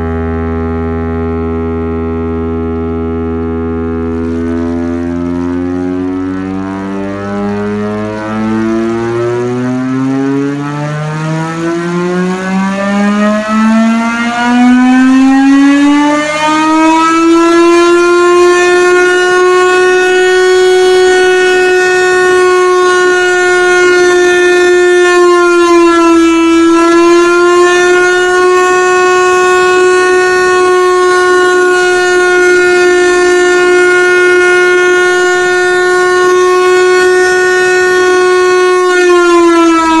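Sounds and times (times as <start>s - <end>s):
air raid siren wailing: 0.0s - 40.0s.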